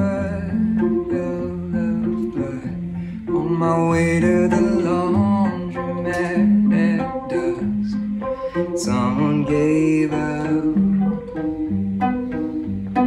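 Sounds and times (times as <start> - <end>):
man singing: 0.0 - 11.4
bowed cello: 0.0 - 13.0
electric guitar: 0.0 - 13.0
keyboards: 0.0 - 13.0.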